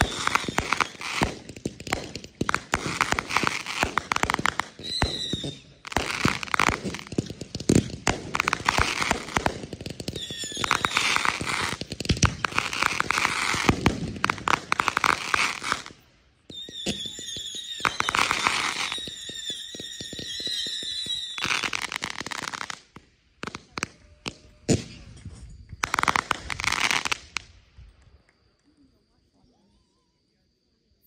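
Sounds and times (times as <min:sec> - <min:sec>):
high firework whistle: 0:00.0 - 0:27.5
fireworks popping and crackling: 0:00.0 - 0:28.1.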